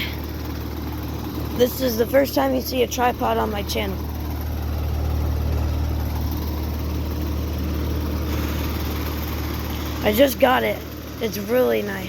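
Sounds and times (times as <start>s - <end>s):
compressor hum: 0.0s - 12.0s
outdoor fan rushing: 0.0s - 12.0s.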